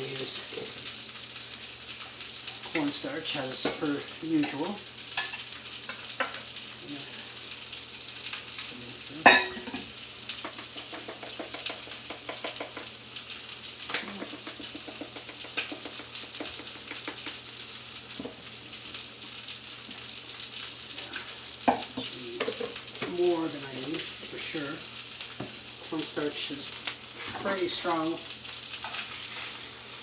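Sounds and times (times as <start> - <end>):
chicken sizzling in a hot pan: 0.0 - 30.0.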